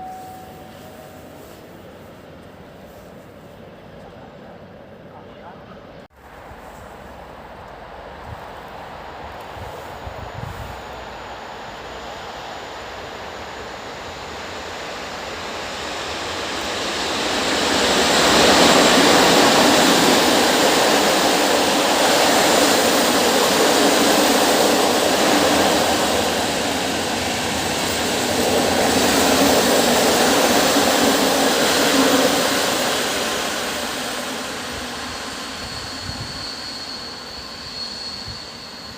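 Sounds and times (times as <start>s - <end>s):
faint high whine: 0.0s - 38.9s
train passing on track: 0.0s - 38.9s.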